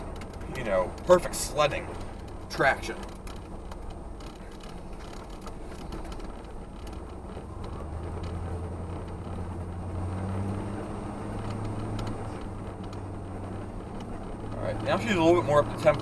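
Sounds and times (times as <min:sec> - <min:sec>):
truck engine drone from inside cab: 0:00.0 - 0:16.0.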